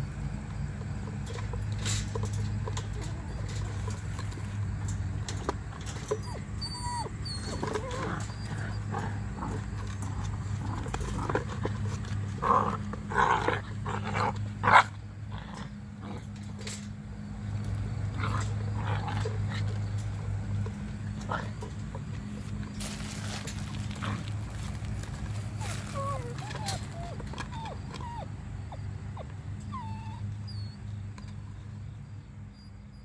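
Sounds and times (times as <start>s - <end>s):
puppies yelping and whining: 1.4s - 14.9s, 18.2s - 31.3s.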